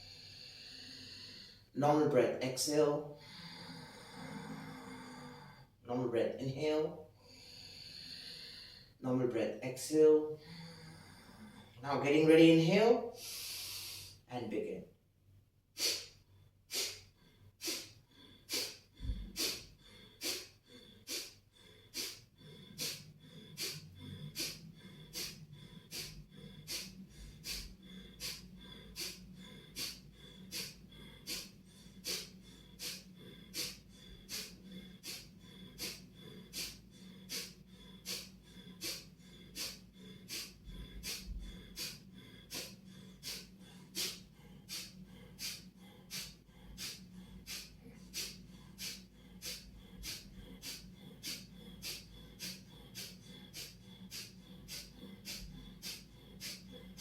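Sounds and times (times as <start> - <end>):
forceful nasal exhalations: 0.0 - 5.8, 9.9 - 14.3, 15.7 - 57.0.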